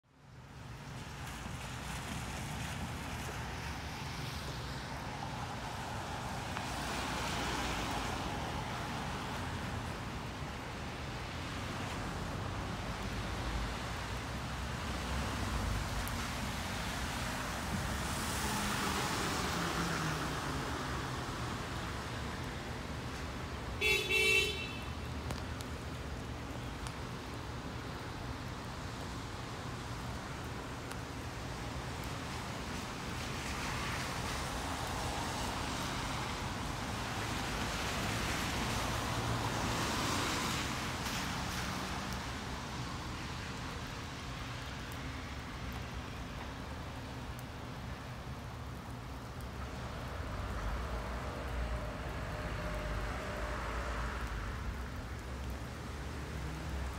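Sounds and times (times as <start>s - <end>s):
tyres hissing on wet pavement: 0.2s - 56.9s.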